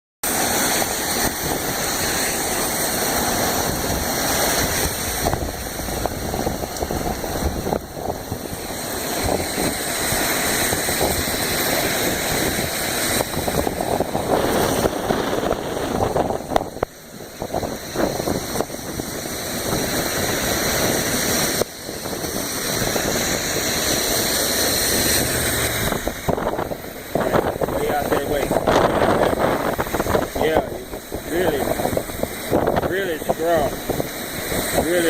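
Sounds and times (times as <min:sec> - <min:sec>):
heavy rain: 0:00.2 - 0:35.0
wind buffeting microphone: 0:00.2 - 0:35.0
wind gusting: 0:00.2 - 0:35.0.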